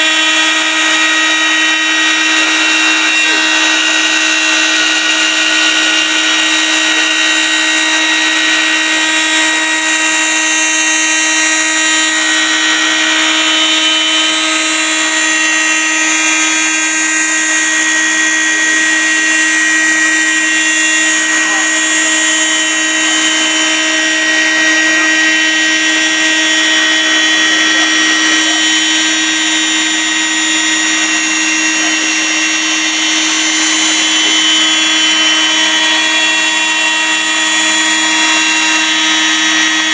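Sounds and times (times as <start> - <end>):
cutter routing wood: 0.0 - 39.9
router spindle whine: 0.0 - 39.9.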